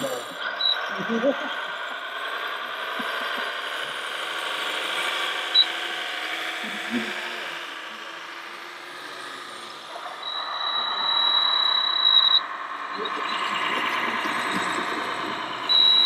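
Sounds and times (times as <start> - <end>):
electric motors and gearboxes whining: 0.0 - 16.0
thin high whine: 0.0 - 16.0.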